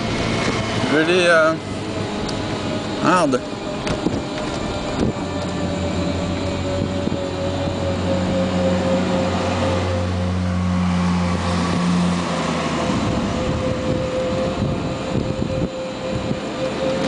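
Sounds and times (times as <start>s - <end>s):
electric motor whine: 0.0s - 17.0s
low hum: 0.0s - 17.0s
wind and road noise: 0.0s - 17.0s.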